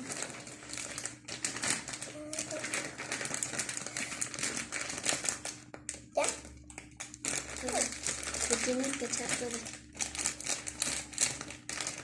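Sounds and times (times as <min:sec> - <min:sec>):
flour bag crinkling: 0:00.0 - 0:12.0.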